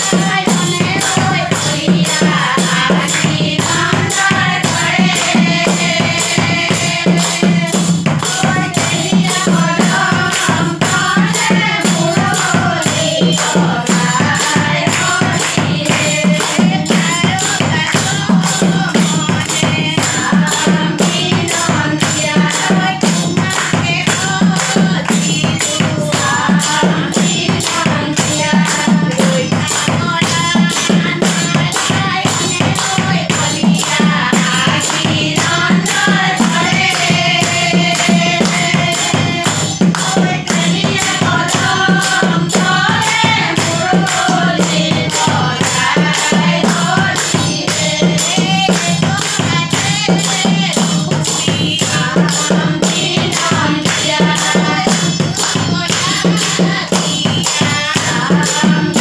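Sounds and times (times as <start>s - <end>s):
rhythmic hand-clapping: 0.0s - 59.0s
women singing together: 0.0s - 59.0s.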